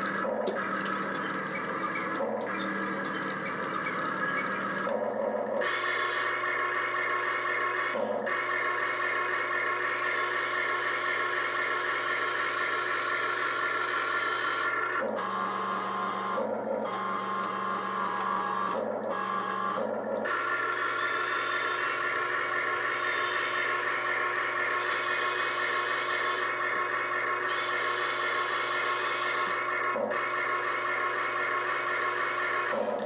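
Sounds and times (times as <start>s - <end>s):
lower motor tone: 0.0s - 31.3s
electric gear motors whining: 0.0s - 33.0s.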